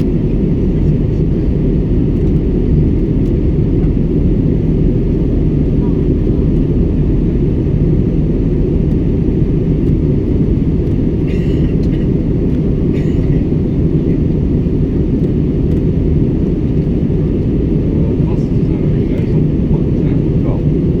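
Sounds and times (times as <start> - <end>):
jet airliner cabin noise: 0.0 - 21.0.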